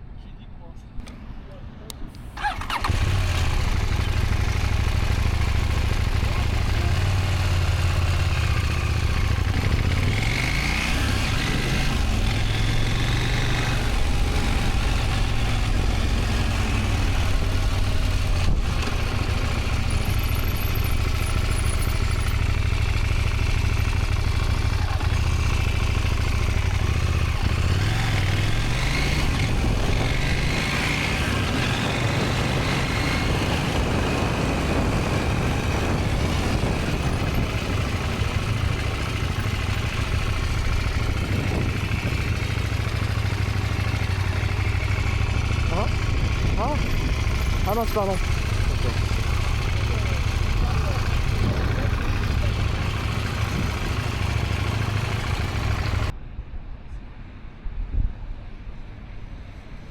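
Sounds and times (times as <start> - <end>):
motorcycle engine at low speed: 2.3 - 56.6.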